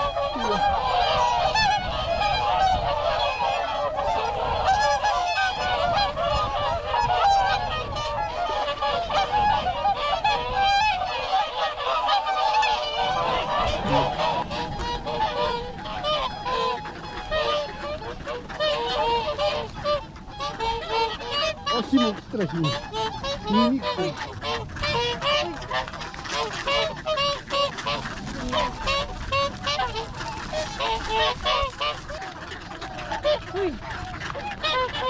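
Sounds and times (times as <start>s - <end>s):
swans honking: 0.0s - 35.0s.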